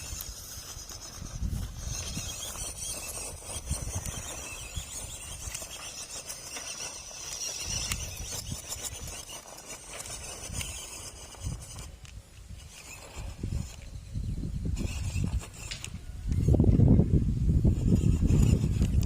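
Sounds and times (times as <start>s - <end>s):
rc car motor whining: 0.0s - 19.0s.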